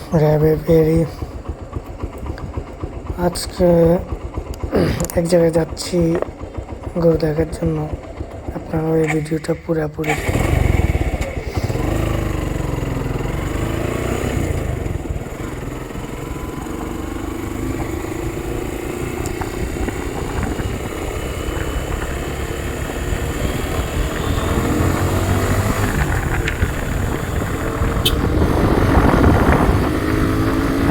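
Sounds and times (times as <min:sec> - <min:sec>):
motorcycle engine riding: 0:00.0 - 0:30.9.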